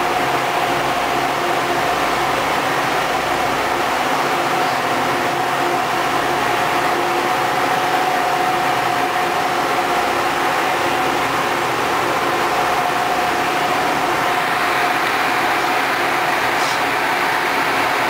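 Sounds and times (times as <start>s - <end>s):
ship engines droning: 0.0s - 18.0s.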